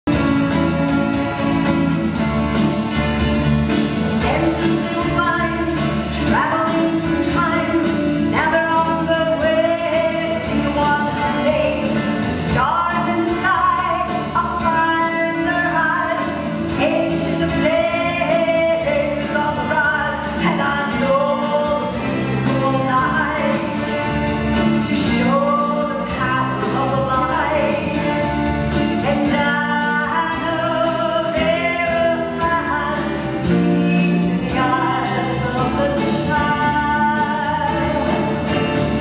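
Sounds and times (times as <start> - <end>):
live instrumental accompaniment: 0.0 - 39.0
woman singing: 3.8 - 39.0.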